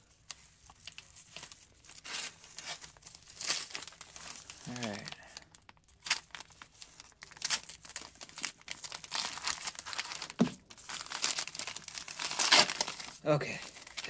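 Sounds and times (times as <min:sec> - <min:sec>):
paper crinkling and ripping: 0:00.0 - 0:14.0.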